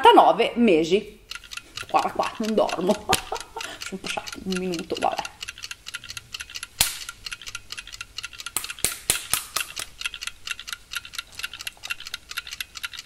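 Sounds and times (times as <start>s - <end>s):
clock ticking fast: 1.1s - 13.0s.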